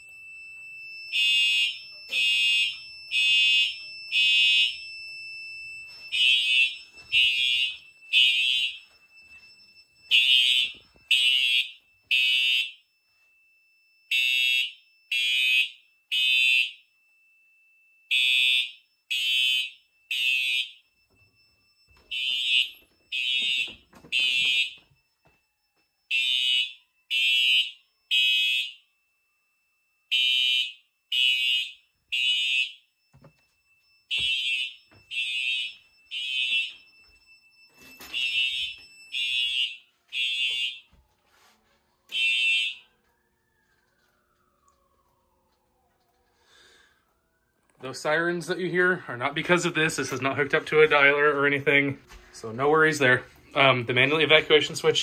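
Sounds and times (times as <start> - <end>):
fire alarm horn blasts: 0.0 - 55.0.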